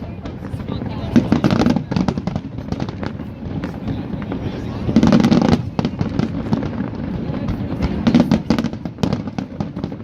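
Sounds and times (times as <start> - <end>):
booming firework bursts: 0.0 - 10.0
fireworks bangs and crackles: 0.0 - 10.0.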